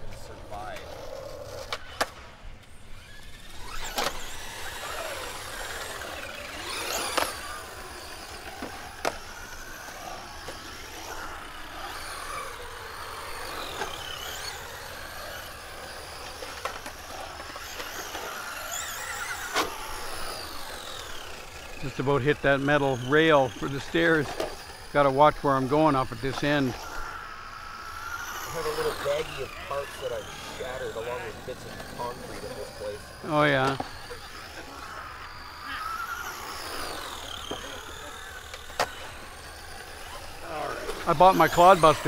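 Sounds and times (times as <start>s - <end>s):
toy truck electric motor whining: 0.1s - 42.0s
toy truck clacking on concrete: 2.7s - 21.8s, 23.8s - 24.9s, 26.2s - 41.8s.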